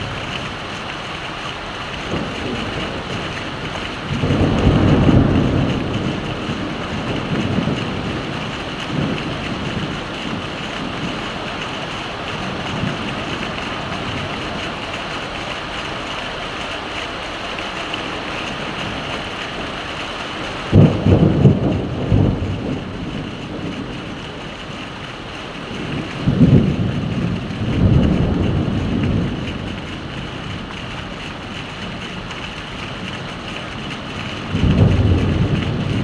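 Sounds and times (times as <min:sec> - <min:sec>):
thunder rumbling: 0:00.0 - 0:16.9, 0:18.0 - 0:36.0
heavy rain hissing: 0:00.0 - 0:36.0.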